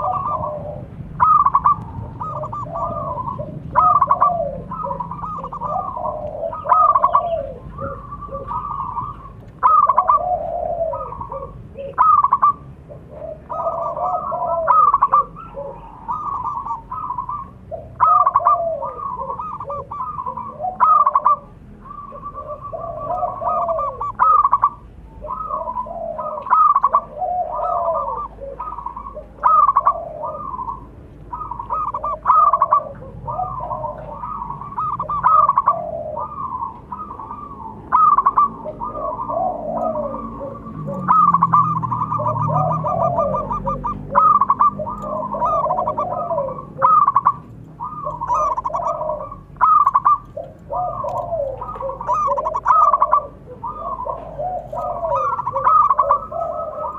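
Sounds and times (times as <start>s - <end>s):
doves cooing: 0.0s - 56.9s.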